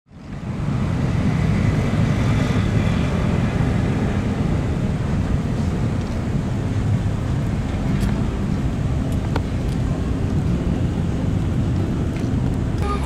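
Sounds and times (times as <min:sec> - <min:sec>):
city street noise: 0:00.1 - 0:13.0.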